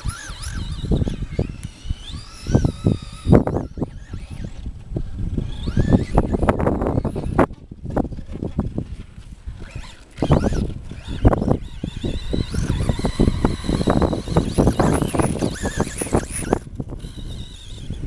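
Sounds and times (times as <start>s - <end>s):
electric motor whine: 0.0s - 18.0s
wind buffeting microphone: 0.0s - 18.0s.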